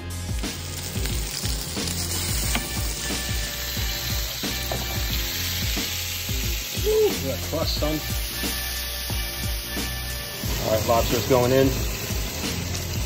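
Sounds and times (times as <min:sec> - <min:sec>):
steak sizzling in a frying pan: 0:00.0 - 0:13.0.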